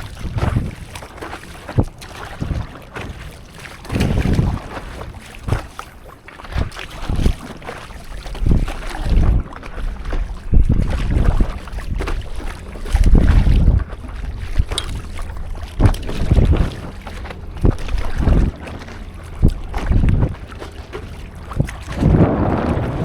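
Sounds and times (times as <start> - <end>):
water splashing around paddleboard: 0.0 - 23.0
wind buffeting microphone: 0.0 - 23.0.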